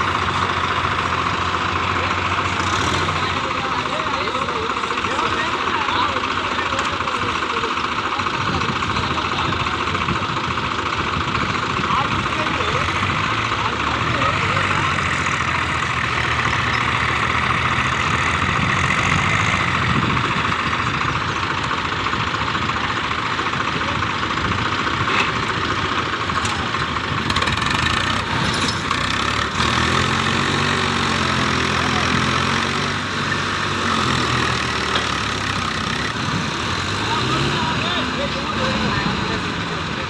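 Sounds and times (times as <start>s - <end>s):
tractor diesel engines running: 0.0s - 40.0s.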